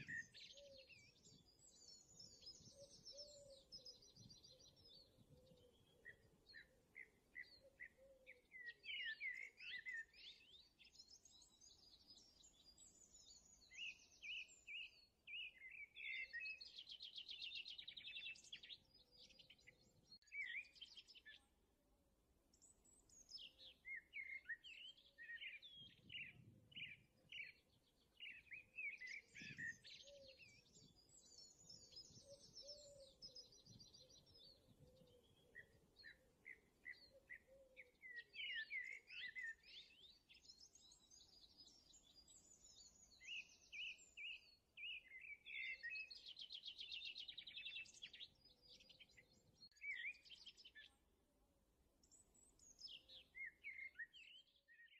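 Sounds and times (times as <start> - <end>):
faint birdsong with trills: 0.0 - 54.9.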